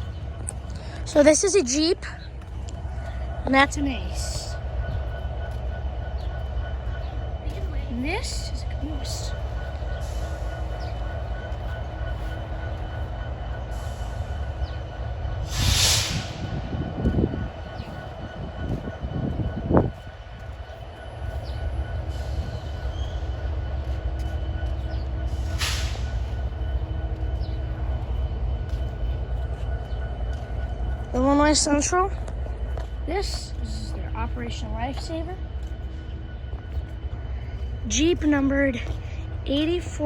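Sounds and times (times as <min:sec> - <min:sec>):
diesel locomotive rumbling: 0:00.0 - 0:40.0.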